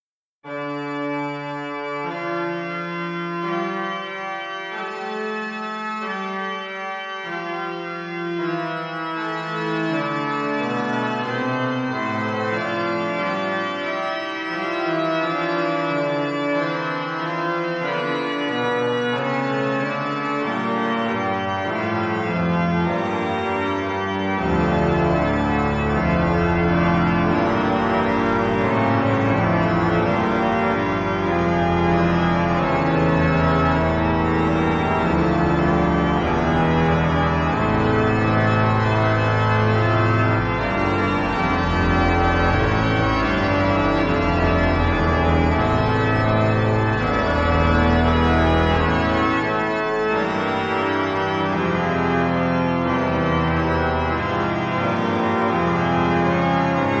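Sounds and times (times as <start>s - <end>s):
pipe organ playing a fugue: 0.5s - 57.0s.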